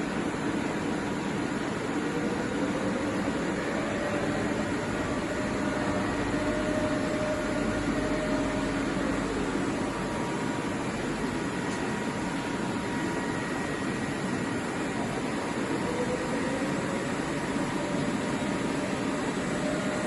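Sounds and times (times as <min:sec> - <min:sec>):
boring machine humming and whining: 0:00.0 - 0:20.0.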